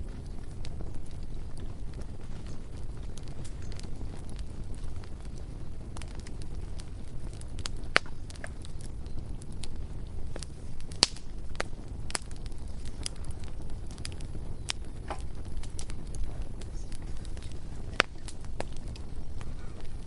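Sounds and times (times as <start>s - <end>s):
burning wood popping and snapping: 0.0s - 20.0s
fire low rumble: 0.0s - 20.0s.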